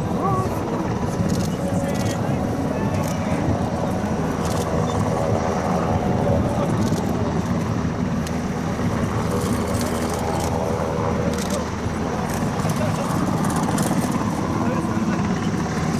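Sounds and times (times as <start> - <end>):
engine running steadily: 0.0 - 15.9.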